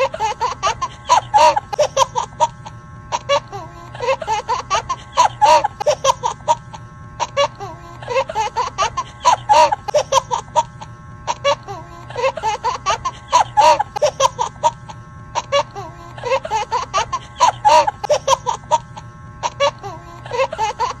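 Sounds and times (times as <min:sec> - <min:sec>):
giggling laugh: 0:00.0 - 0:10.7, 0:11.3 - 0:21.0.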